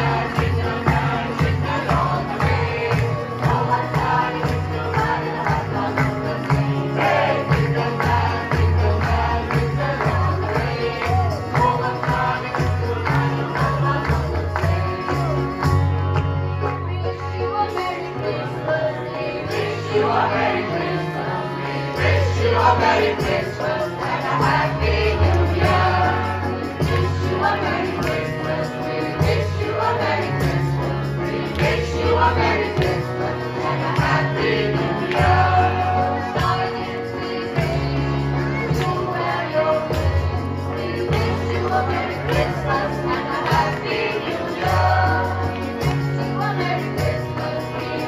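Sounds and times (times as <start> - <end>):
choir singing through pa system: 0.0 - 15.6, 17.4 - 48.0
amplified instrumental backing: 0.0 - 48.0.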